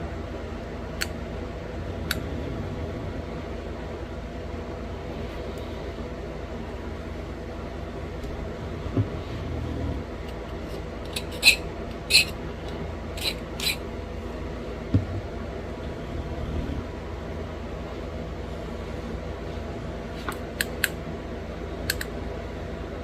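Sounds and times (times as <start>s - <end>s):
fan hum: 0.0s - 23.0s.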